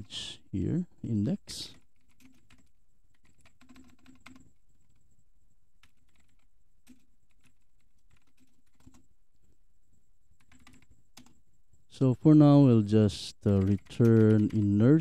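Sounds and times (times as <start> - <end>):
faint keyboard typing: 0.0 - 15.0.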